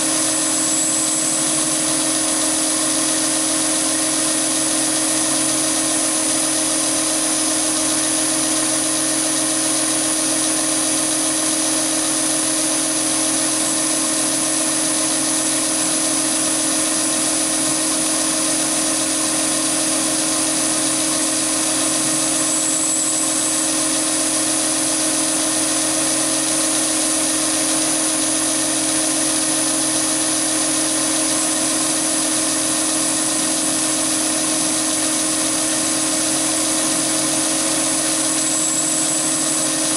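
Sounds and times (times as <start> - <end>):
high cutting whine: 0.0 - 39.9
lathe machine hum: 0.0 - 39.9.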